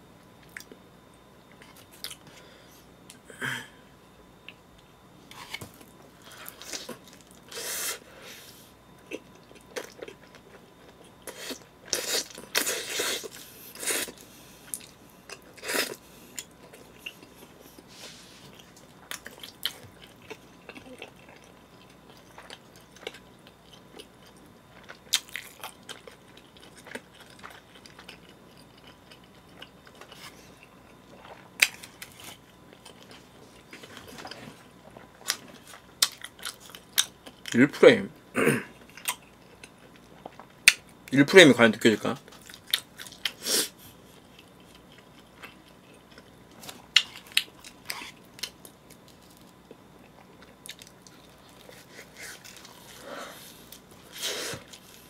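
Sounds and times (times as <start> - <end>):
person chewing food: 1.5 - 2.4, 9.0 - 37.5, 38.8 - 41.0, 42.2 - 55.0.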